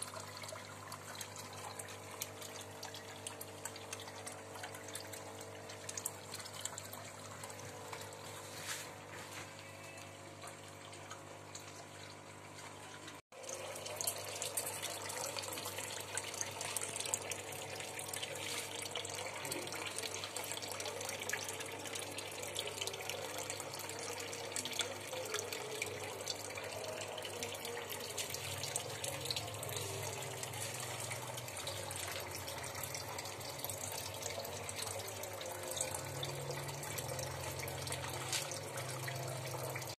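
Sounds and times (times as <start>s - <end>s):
water splashing and trickling: 0.0s - 40.0s.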